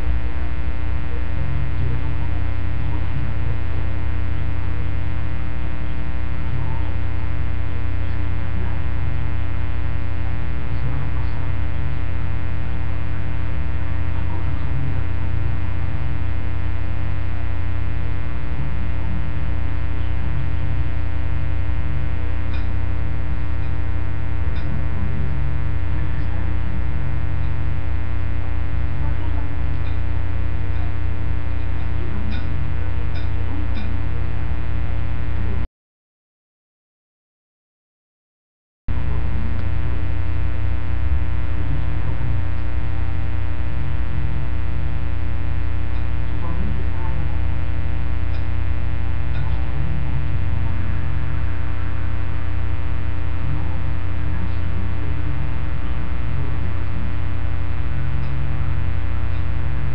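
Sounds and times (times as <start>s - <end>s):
electrical mains hum: 0.0s - 35.7s, 38.9s - 59.9s.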